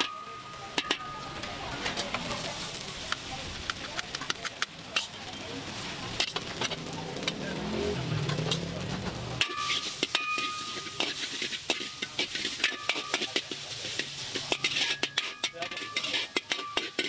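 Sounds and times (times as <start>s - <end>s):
metal spatula scraping a wok: 0.0s - 7.4s, 8.3s - 17.0s
noodles sizzling in a wok: 0.0s - 17.0s.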